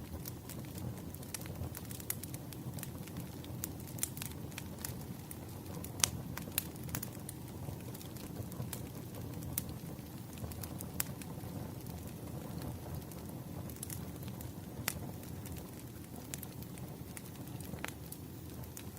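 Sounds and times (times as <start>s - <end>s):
low rumble of burning logs: 0.0s - 18.9s
wood fire crackling: 0.0s - 18.9s.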